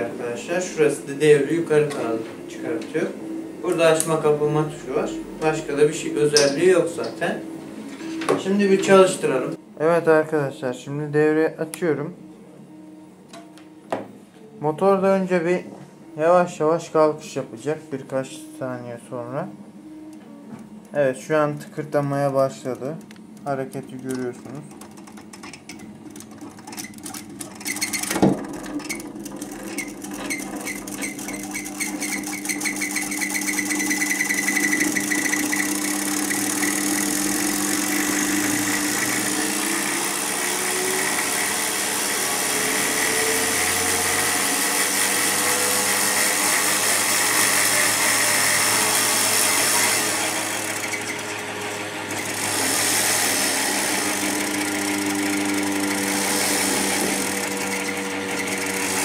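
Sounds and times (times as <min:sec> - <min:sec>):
cream separator motor spinning: 0:00.0 - 0:09.6, 0:16.2 - 0:59.0.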